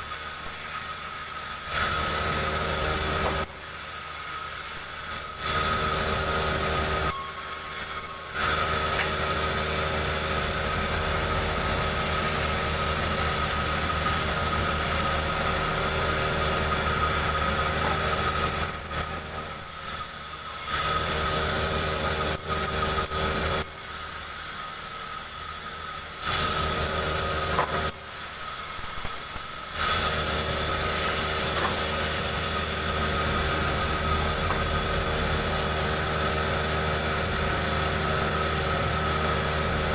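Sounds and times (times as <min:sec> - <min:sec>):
chainsaw cutting log: 0:01.6 - 0:03.7, 0:04.8 - 0:07.1, 0:07.9 - 0:23.7, 0:26.1 - 0:39.9.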